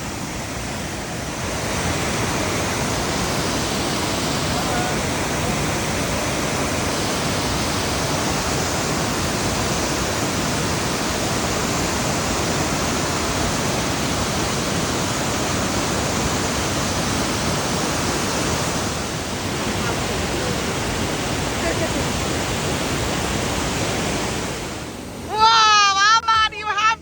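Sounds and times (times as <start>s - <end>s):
waterfall rushing: 0.0s - 25.7s.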